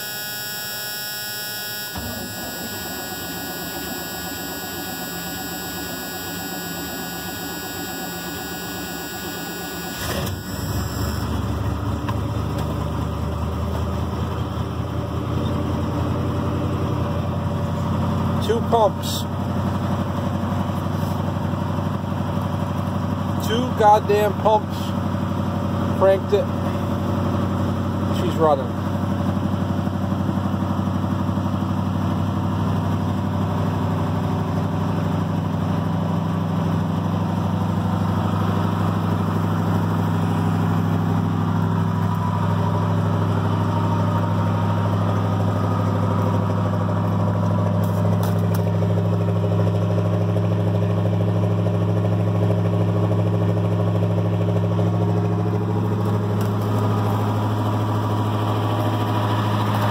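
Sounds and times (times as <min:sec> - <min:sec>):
truck engine idling: 0:01.8 - 0:59.9.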